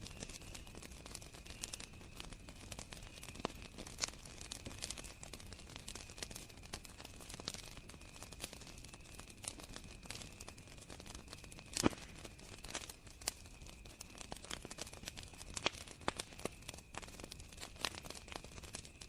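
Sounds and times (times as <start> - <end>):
campfire crackling and popping: 0.0 - 19.0
crickets chirring: 0.0 - 19.0.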